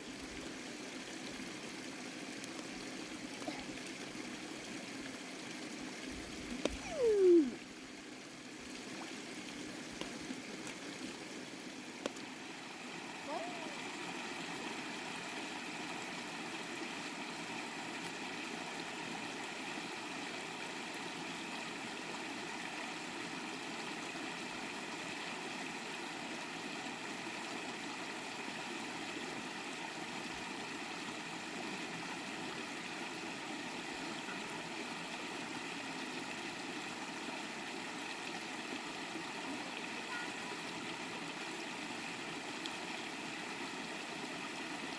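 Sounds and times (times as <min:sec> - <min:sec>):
flowing stream water: 0:00.0 - 0:44.9.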